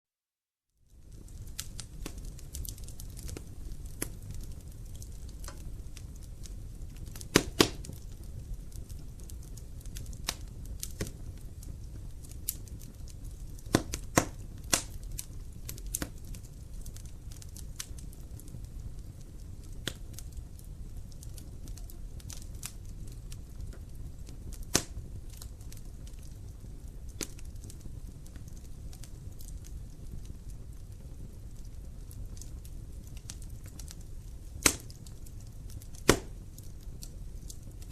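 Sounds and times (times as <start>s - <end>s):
wood fire crackling: 0.7s - 37.9s.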